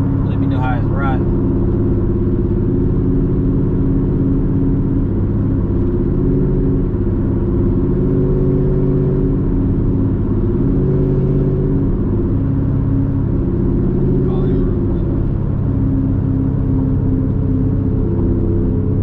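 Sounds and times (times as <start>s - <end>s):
car engine droning: 0.0s - 19.0s
road noise: 0.0s - 19.0s.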